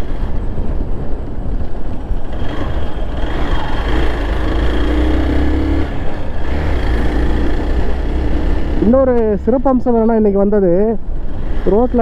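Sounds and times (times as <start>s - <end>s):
motorcycle engine running: 0.0s - 9.8s, 11.1s - 12.0s
wind rumble on microphone: 0.0s - 12.0s.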